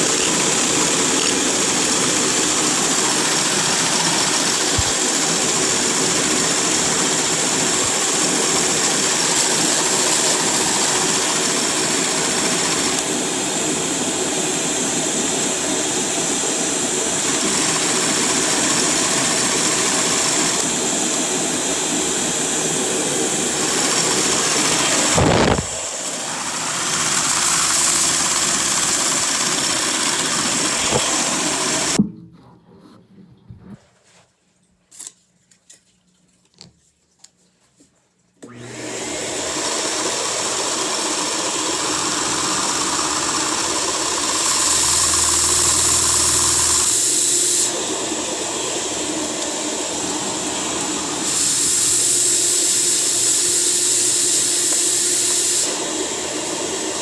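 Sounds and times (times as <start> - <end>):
pneumatic engine whirring and hissing: 0.0 - 32.0, 38.5 - 57.0.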